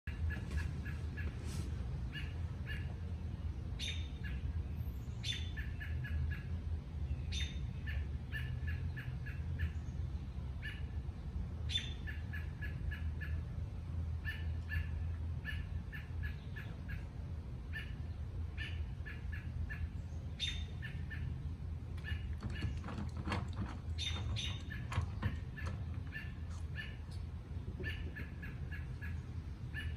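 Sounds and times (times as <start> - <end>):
steady low rumble: 0.1 - 22.4, 23.8 - 29.9
bird chirping: 2.1 - 13.5, 14.1 - 29.9.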